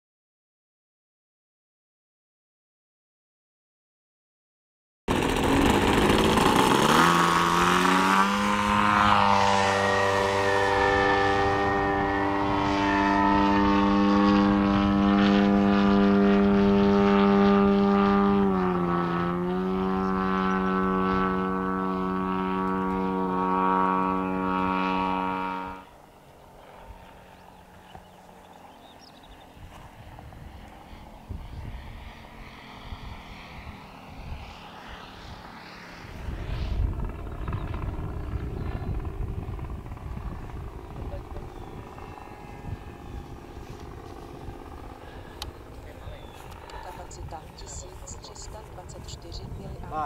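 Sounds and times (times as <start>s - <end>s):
model plane engine and propeller: 5.1s - 50.0s.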